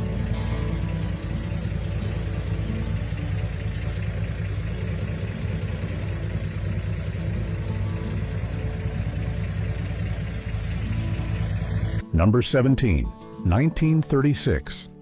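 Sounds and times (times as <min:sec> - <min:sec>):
pickup engine running at low speed: 0:00.0 - 0:12.0.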